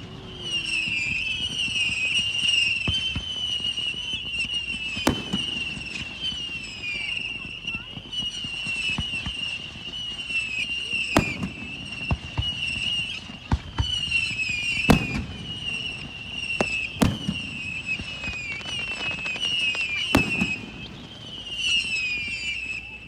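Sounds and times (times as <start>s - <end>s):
firework bangs: 0.0s - 23.0s
firework whistles: 0.0s - 23.0s.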